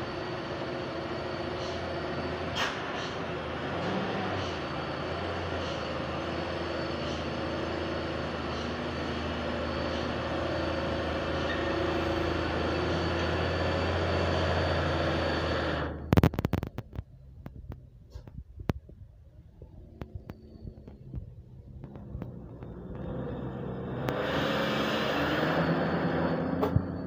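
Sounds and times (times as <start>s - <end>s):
road noise: 0.0s - 27.0s
truck engine running: 0.0s - 27.0s.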